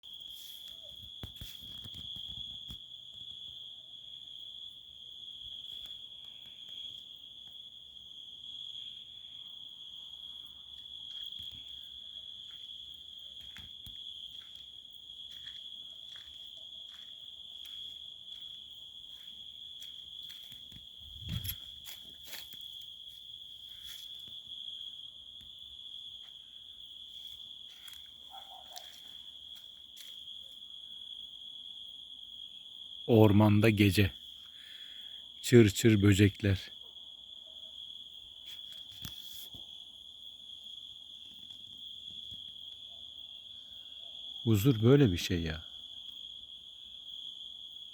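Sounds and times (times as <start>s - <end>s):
crickets chirping: 0.0s - 47.9s.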